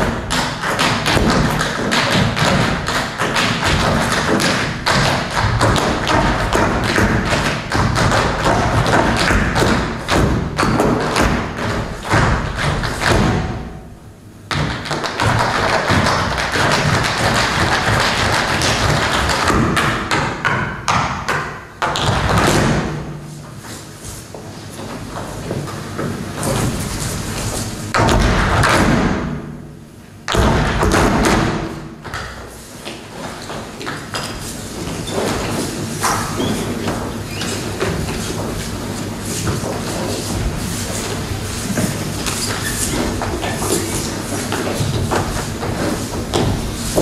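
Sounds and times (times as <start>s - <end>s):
shoes stamping on stage floor: 0.0s - 13.8s, 14.5s - 29.5s, 30.3s - 47.0s.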